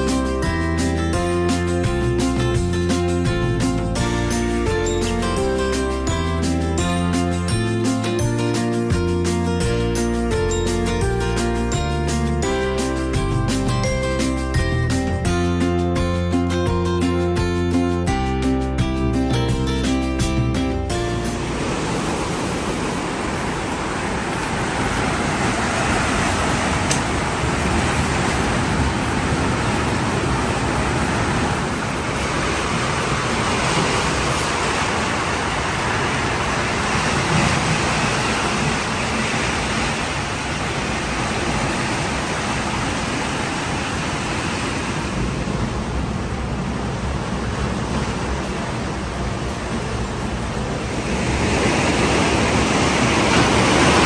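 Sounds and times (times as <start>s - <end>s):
sea surf: 0.0s - 54.0s
wind: 0.0s - 54.0s.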